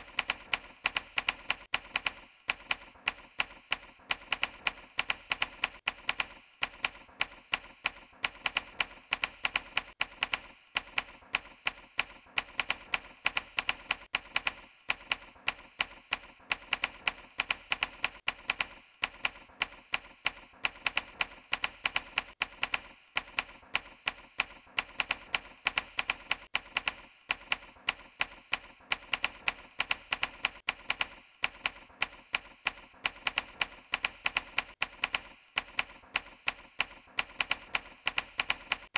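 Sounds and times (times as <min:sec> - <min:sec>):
rapid sharp clicking: 0:00.0 - 0:38.9.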